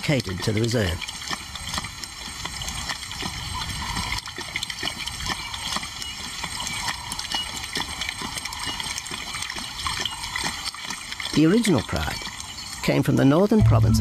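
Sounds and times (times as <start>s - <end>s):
lions lapping water: 0.0s - 13.6s.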